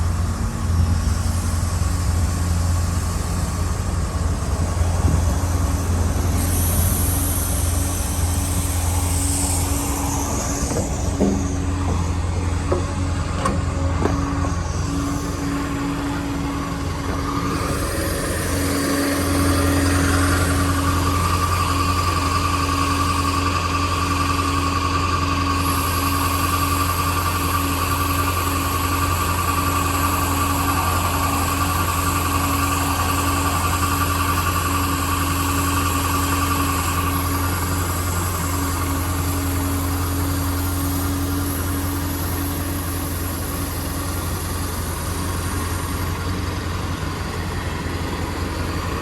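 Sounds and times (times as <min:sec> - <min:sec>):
diesel engine idling: 0:00.0 - 0:49.0
steady whine: 0:00.0 - 0:49.0.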